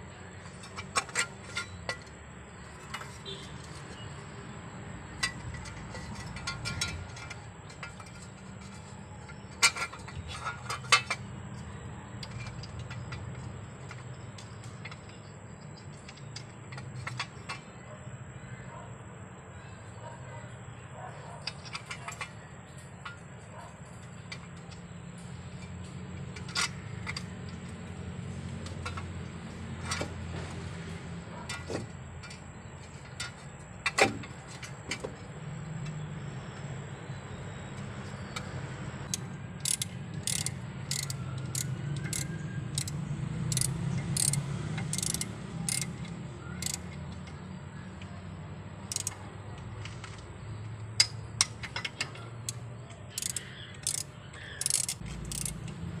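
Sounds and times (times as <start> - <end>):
metal tool clicking on engine parts: 0.2 - 18.6, 21.3 - 36.1, 37.4 - 56.0.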